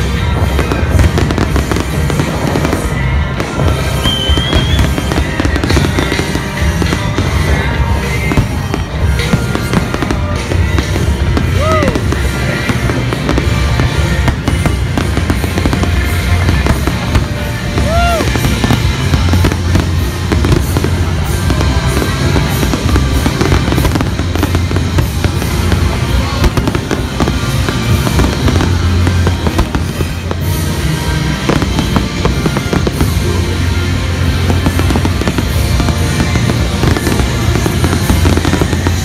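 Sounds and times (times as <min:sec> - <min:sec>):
fireworks popping and crackling: 0:00.0 - 0:39.0
music: 0:00.0 - 0:39.0.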